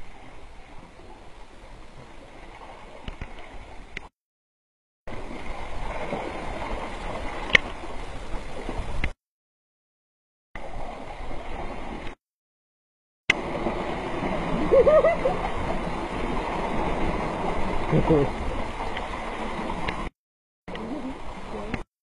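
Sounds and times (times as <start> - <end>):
creek water rushing and gurgling: 0.0 - 4.1, 5.1 - 9.2, 10.6 - 12.2, 13.3 - 20.1, 20.7 - 21.9.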